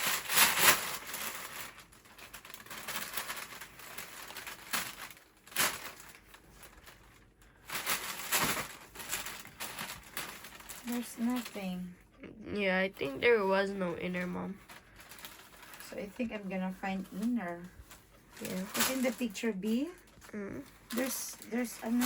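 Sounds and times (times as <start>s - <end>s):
packaging and clothing rustling: 0.0s - 12.0s, 13.0s - 22.0s.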